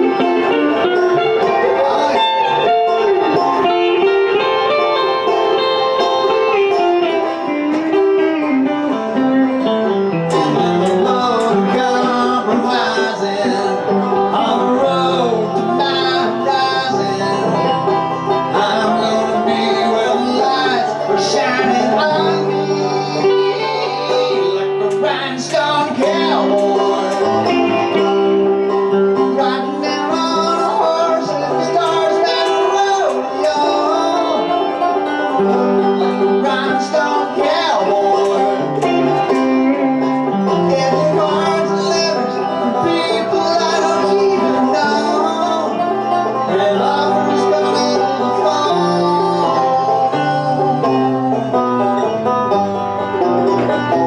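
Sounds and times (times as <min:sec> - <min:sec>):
banjo picking: 0:00.0 - 0:54.0
electric guitar picking: 0:00.0 - 0:54.0.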